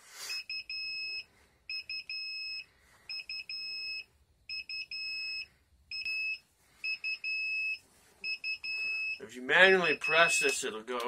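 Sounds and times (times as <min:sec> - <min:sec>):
alarm buzzer beeping: 0:00.3 - 0:10.7.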